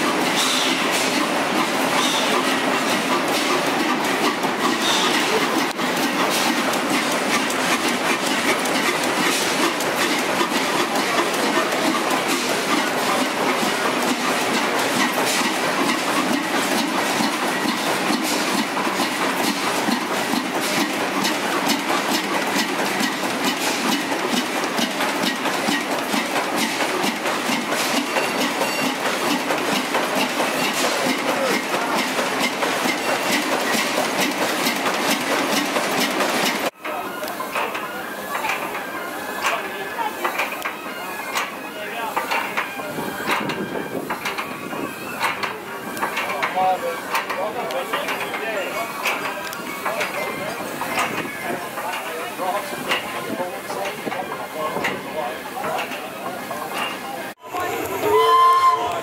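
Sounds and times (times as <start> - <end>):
stationary engines clattering: 0.0 - 58.0.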